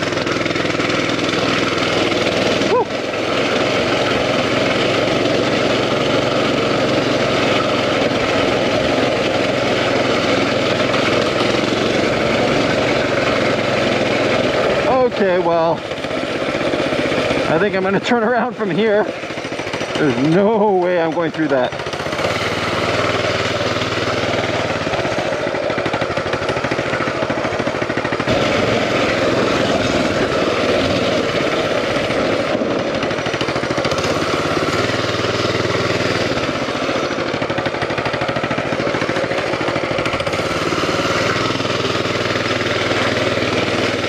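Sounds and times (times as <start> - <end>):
mini bike engine running: 0.0 - 44.0.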